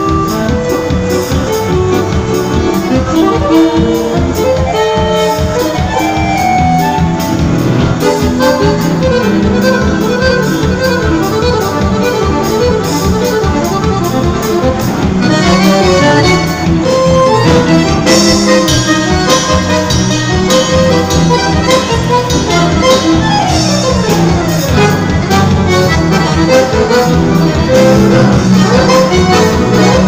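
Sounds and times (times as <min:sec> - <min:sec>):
accordion playing dance tune: 0:00.0 - 0:30.0
steady drum beat: 0:00.0 - 0:30.0.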